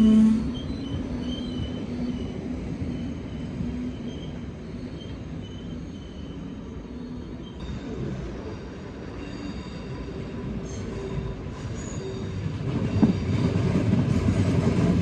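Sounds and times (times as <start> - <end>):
train rumbling on track: 0.0 - 15.0
wheels squealing on rails: 0.0 - 15.0.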